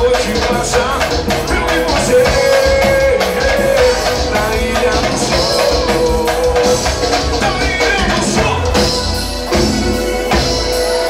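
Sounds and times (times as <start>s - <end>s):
drum beat: 0.0s - 11.0s
guitar: 0.0s - 11.0s
person singing: 0.0s - 11.0s.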